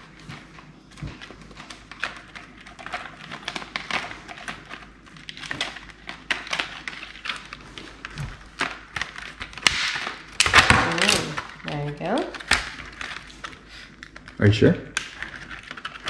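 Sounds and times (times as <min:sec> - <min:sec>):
plastic crackling and clicking: 0:00.0 - 0:16.0
scissors snipping plastic: 0:01.0 - 0:14.3.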